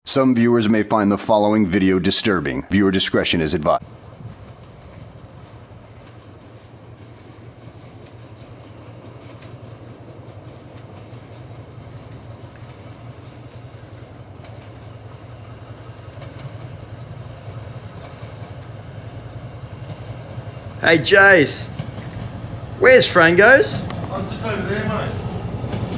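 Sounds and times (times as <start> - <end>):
train rumbling: 0.7 - 25.9.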